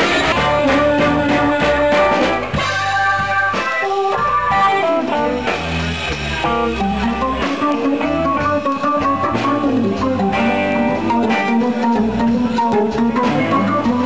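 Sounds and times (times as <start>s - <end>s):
live blues band playing: 0.0s - 14.0s.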